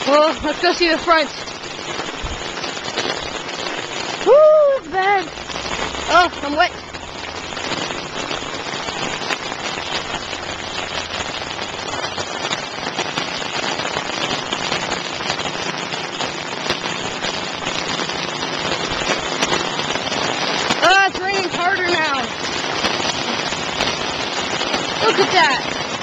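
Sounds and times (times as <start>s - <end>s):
heavy rain on floodwater: 0.0s - 26.0s.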